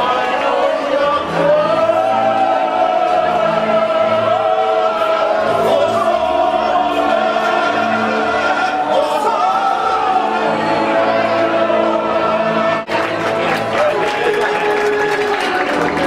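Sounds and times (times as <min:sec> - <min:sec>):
man singing operatic song: 0:00.0 - 0:15.6
musical accompaniment: 0:00.0 - 0:16.0.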